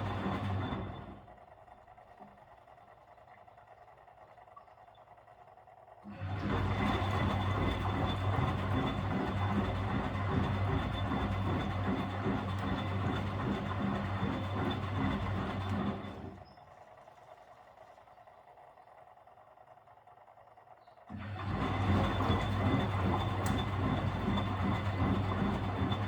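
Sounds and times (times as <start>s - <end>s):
washing machine motor hum with whine: 0.0s - 26.0s.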